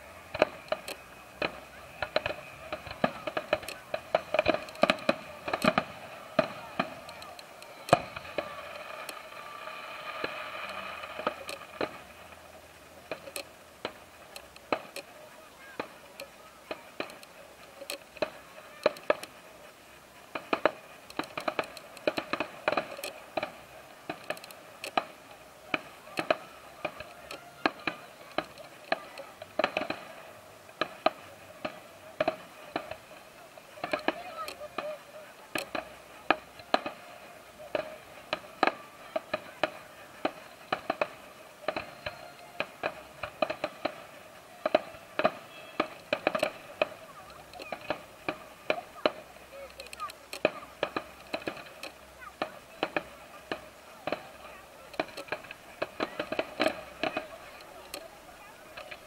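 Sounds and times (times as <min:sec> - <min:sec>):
crowd voices: 0:00.0 - 0:59.0
fireworks bursting with bangs: 0:00.0 - 0:59.0.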